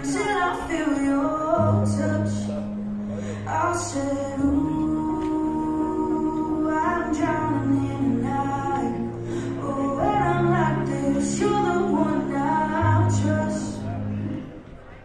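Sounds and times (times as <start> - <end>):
pop song over loudspeakers: 0.0 - 15.0.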